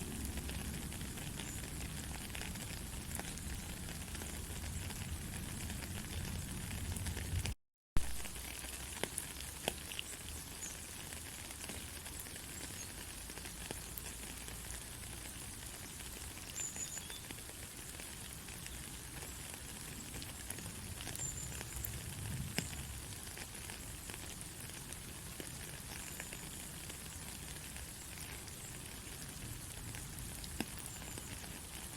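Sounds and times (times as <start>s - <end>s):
raindrops ticking: 0.0s - 31.9s
steady rain falling: 0.0s - 31.9s.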